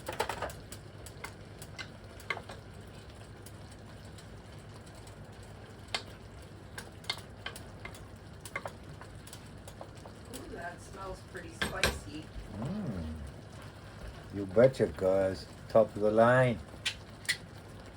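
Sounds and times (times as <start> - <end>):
sauce sizzling with sharp pops: 0.0 - 12.5, 13.4 - 17.9
low steady hum: 0.0 - 17.9.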